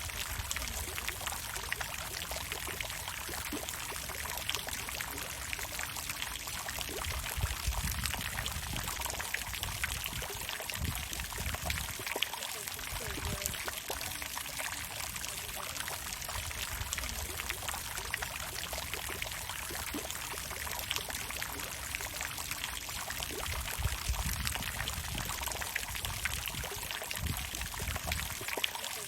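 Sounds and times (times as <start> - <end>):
water fountain splashing: 0.0 - 29.0.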